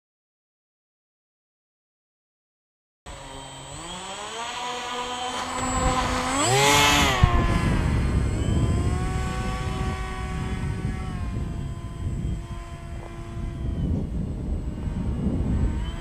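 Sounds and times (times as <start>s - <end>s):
model paramotor motor whining: 3.1s - 16.0s.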